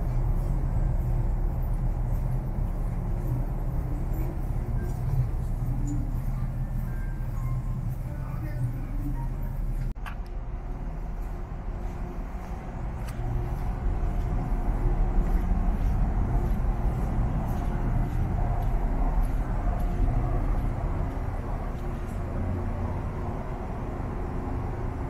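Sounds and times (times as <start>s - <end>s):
ship machinery rumble: 0.0s - 25.0s.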